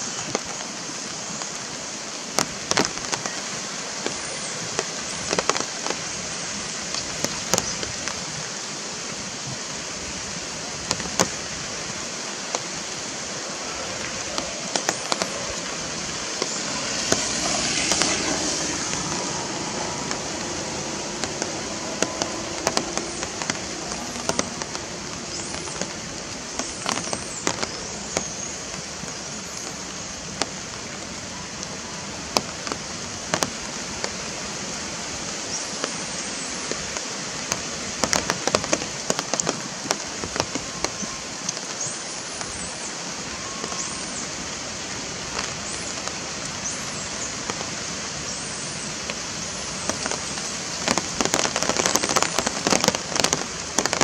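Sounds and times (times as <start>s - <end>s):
outdoor ambience hiss: 0.0s - 54.0s.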